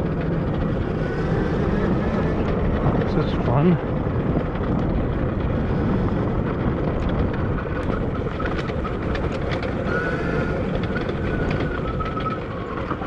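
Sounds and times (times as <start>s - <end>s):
bike rattles and clicks: 0.0s - 13.0s
wind buffeting microphone: 0.0s - 13.0s.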